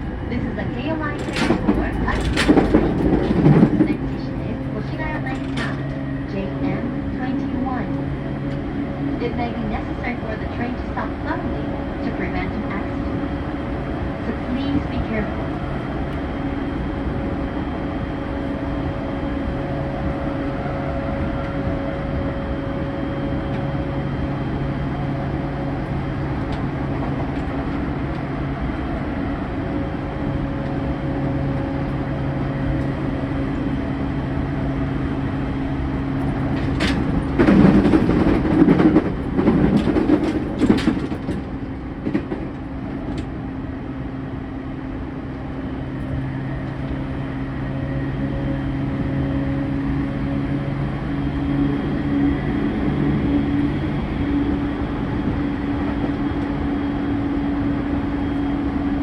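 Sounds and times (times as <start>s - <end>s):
train clattering and rumbling: 0.0s - 59.0s
train rolling hum: 0.0s - 59.0s.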